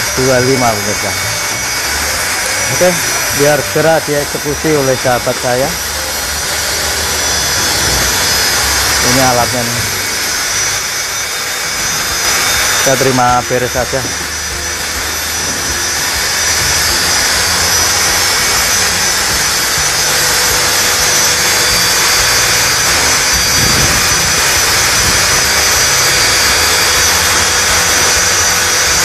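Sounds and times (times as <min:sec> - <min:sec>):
milling machine whining: 0:00.0 - 0:29.0.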